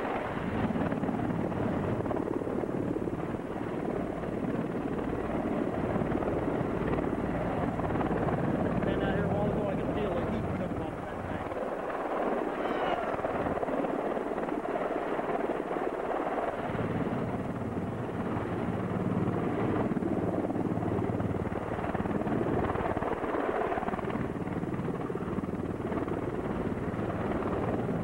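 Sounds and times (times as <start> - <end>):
helicopter rotor and turbine engines: 0.0 - 28.0.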